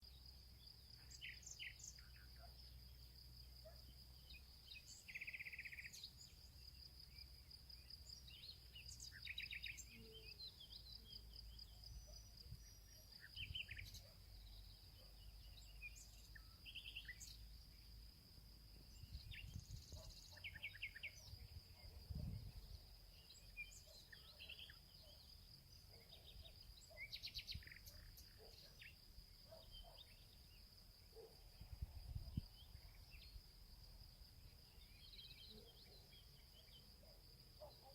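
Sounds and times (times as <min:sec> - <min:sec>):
bird chirps: 0:00.9 - 0:02.9, 0:03.6 - 0:18.0, 0:18.7 - 0:33.4, 0:34.4 - 0:37.9.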